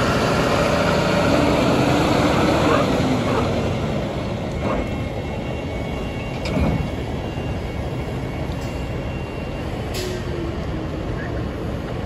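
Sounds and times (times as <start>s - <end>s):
train cars rumbling over rails: 0.0s - 12.0s.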